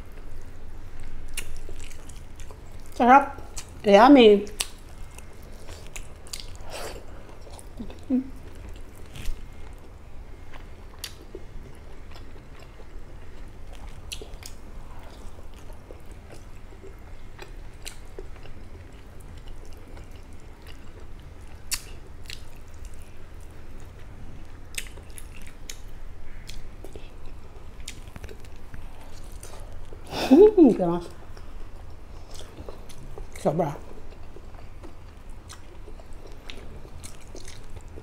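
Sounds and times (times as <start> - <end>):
steady low hum: 0.0 - 38.0
person chewing: 1.0 - 3.8, 4.5 - 9.9, 10.5 - 30.0, 31.2 - 38.0.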